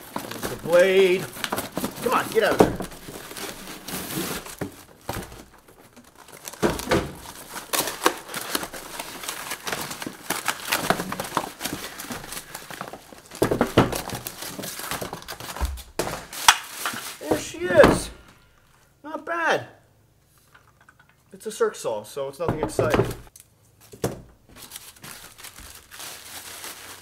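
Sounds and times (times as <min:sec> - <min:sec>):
cardboard and plastic bag rustling: 0:00.0 - 0:18.8, 0:22.5 - 0:27.0.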